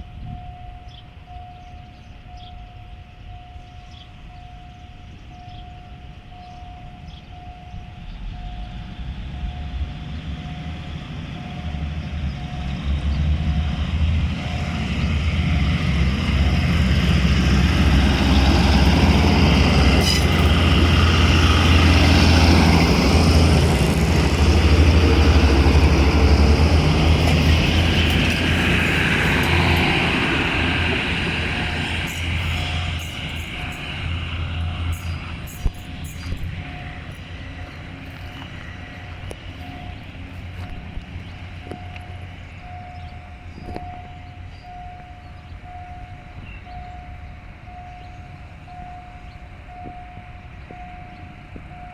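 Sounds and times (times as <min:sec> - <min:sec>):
diesel locomotive engine rumble: 0:00.0 - 0:51.9.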